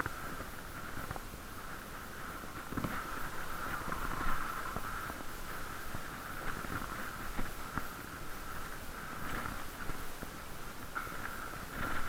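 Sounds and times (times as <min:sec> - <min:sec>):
faint ticks from bike: 0:00.0 - 0:12.0
muffled bicycle riding: 0:00.0 - 0:12.0.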